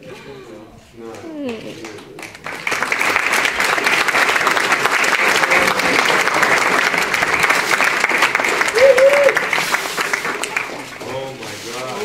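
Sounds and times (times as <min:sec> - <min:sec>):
small group applauding: 0:01.0 - 0:12.0.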